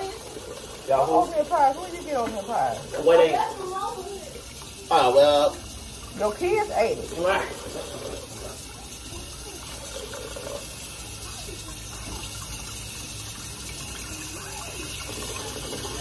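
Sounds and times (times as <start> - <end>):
faucet running into metal sink: 0.0 - 16.0.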